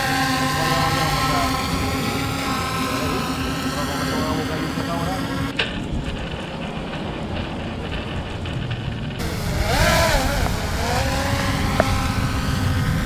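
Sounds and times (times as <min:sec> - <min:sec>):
drone propellers whining: 0:00.0 - 0:13.0
low rumble: 0:00.0 - 0:13.0.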